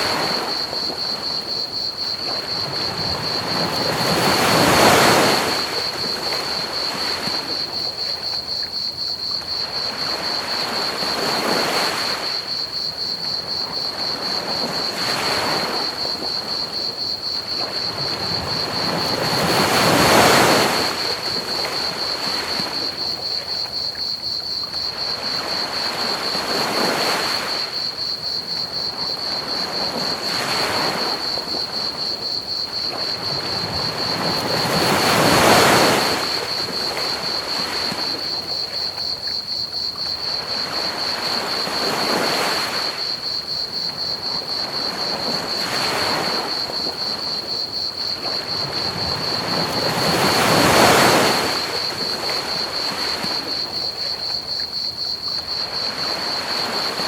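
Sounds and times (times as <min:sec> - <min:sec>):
ocean waves breaking on beach: 0:00.0 - 0:08.4, 0:09.5 - 0:23.4, 0:24.8 - 0:39.2, 0:40.1 - 0:57.0
crickets chirping: 0:00.0 - 0:57.0.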